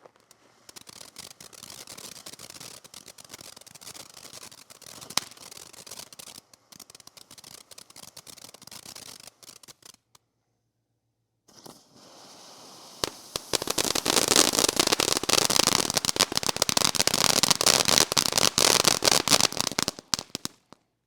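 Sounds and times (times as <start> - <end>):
firework fountain crackling: 0.0 - 10.2, 11.5 - 20.8.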